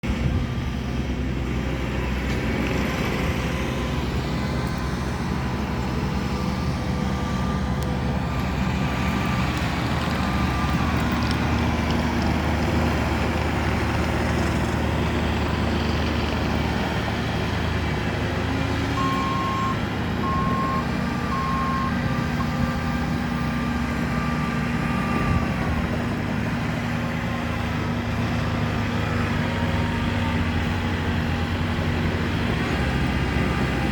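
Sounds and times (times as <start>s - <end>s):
tractor engines running under load: 0.0s - 33.9s.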